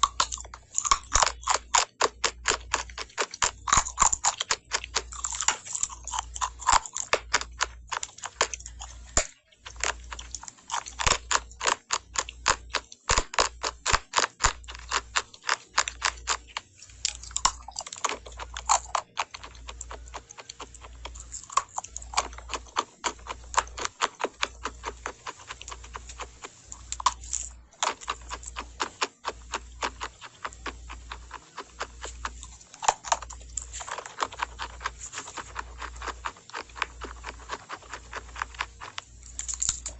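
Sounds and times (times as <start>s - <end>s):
crisp crunching chewing: 0.0s - 39.9s.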